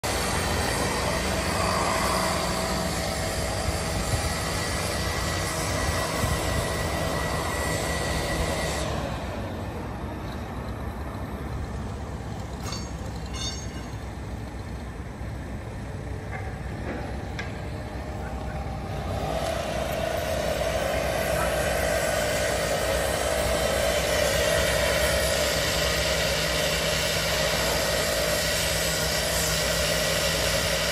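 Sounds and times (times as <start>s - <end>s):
road traffic going by: 0.0s - 30.9s.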